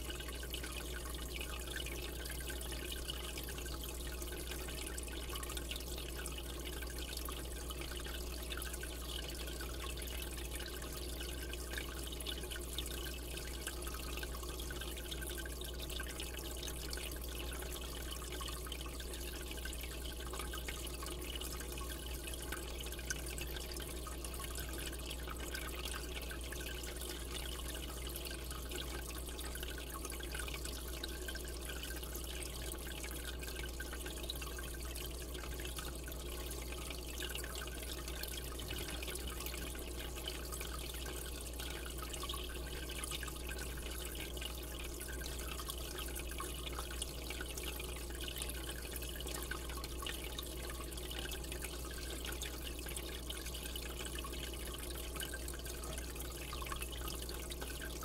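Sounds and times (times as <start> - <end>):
aquarium water trickling: 0.0 - 58.0
low steady hum: 0.0 - 58.0.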